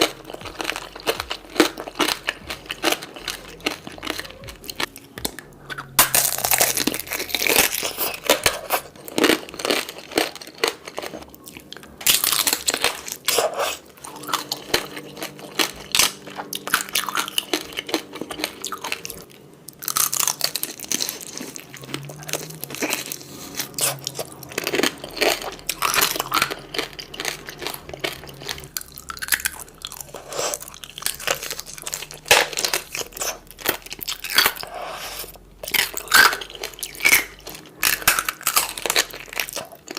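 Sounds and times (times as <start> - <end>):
crunchy fruit chewing: 0.0 - 39.9.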